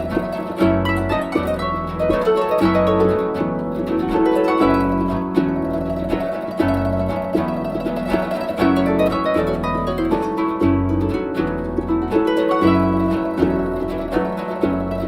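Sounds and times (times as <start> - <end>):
deep ringing bass notes: 0.0 - 15.0
harp plucked notes: 0.0 - 15.0.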